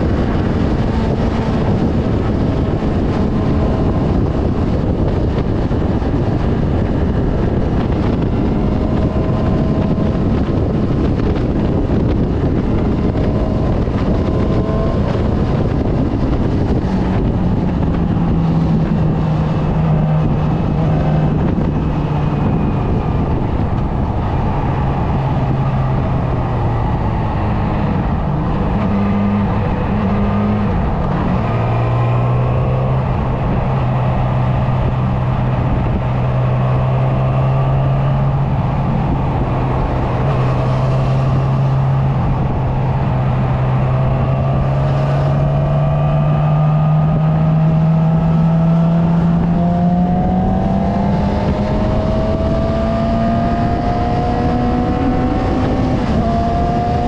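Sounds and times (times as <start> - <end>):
heavy wind noise: 0.0 - 57.0
road noise: 0.0 - 57.0
vehicle engine cruising: 0.0 - 57.0.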